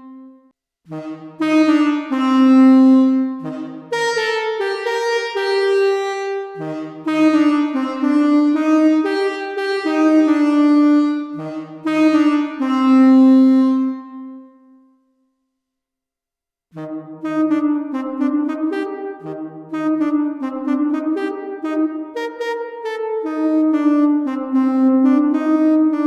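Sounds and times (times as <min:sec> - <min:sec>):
synthesizer chords with reverb: 0:00.0 - 0:14.5, 0:16.8 - 0:26.0.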